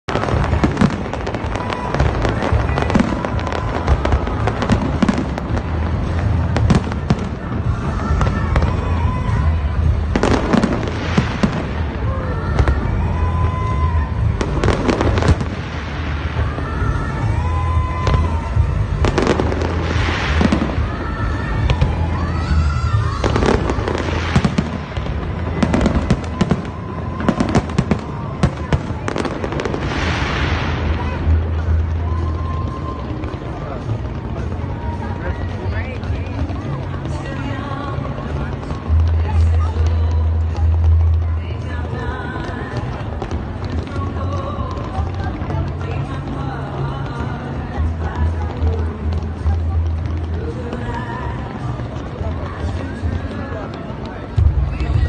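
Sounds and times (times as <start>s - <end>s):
fireworks bangs and crackling: 0.0s - 55.0s
music playing: 0.0s - 55.0s.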